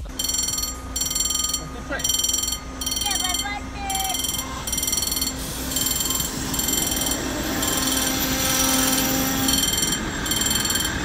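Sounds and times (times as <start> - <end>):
diesel railcar passing: 0.0 - 11.0
level crossing warning bell: 0.0 - 11.0.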